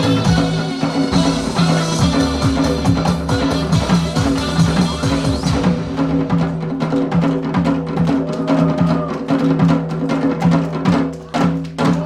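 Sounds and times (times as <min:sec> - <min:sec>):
backing track music: 0:00.0 - 0:12.0.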